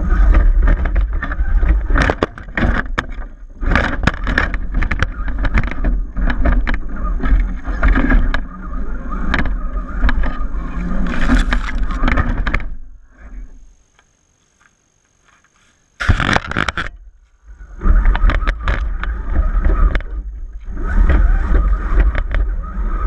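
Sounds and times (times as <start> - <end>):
rc truck rumbling over rocks: 0.0 - 13.8, 15.2 - 23.0.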